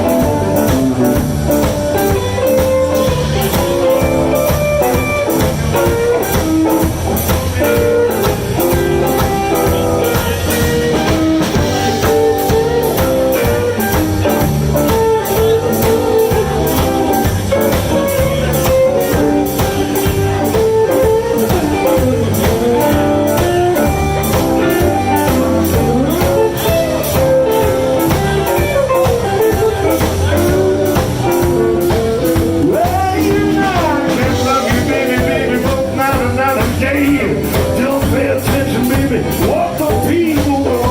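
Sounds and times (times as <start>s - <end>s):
bass: 0.0s - 40.9s
drums: 0.0s - 40.9s
electric guitar: 0.0s - 40.9s.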